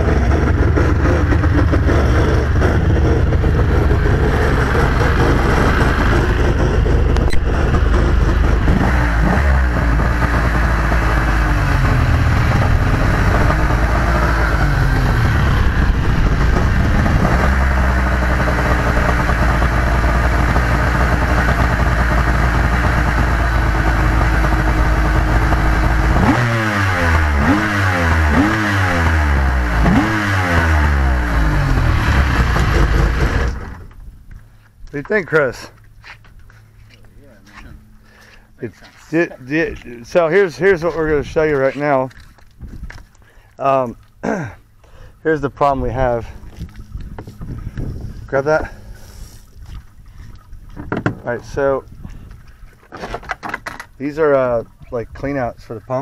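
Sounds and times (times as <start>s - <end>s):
boat engines idling and revving: 0.0s - 56.0s.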